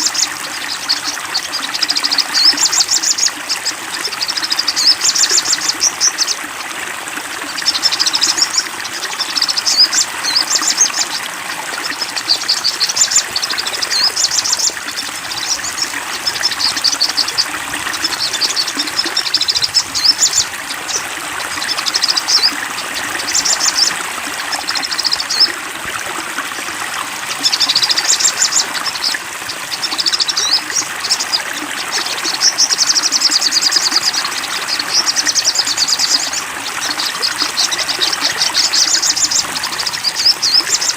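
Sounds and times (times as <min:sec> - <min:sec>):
songbird trilling: 0:00.0 - 0:06.4, 0:07.5 - 0:11.2, 0:11.8 - 0:25.6, 0:27.4 - 0:40.9
flowing water: 0:00.0 - 0:40.9.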